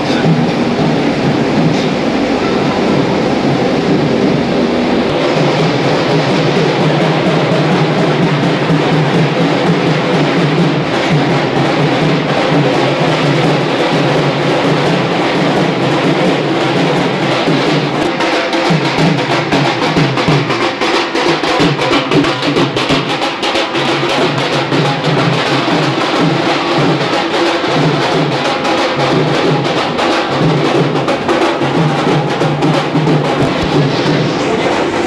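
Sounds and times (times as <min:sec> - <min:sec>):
loud drum-led music: 0:00.0 - 0:35.0.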